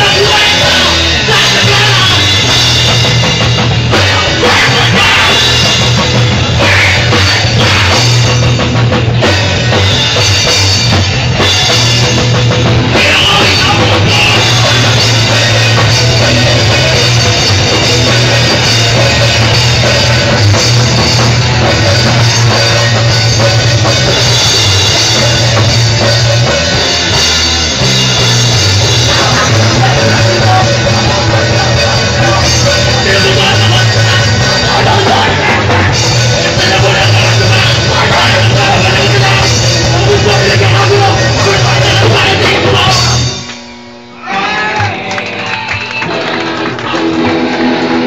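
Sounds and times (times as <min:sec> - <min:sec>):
live rock band playing loud: 0:00.0 - 0:48.0.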